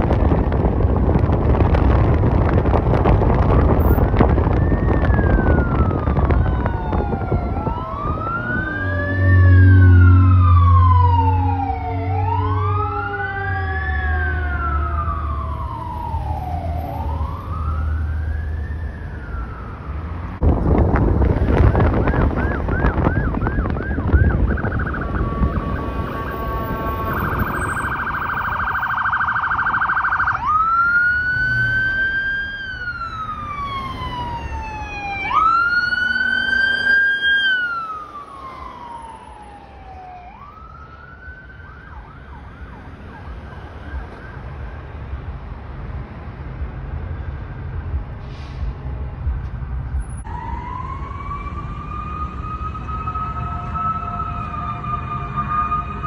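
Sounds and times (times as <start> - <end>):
road and wind rumble: 0.0 - 56.0
ambulance siren: 3.2 - 20.4, 21.2 - 45.0, 50.0 - 56.0.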